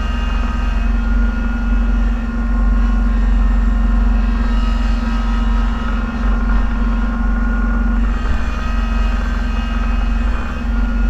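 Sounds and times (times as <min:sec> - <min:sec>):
snowplow engine running: 0:00.0 - 0:11.0.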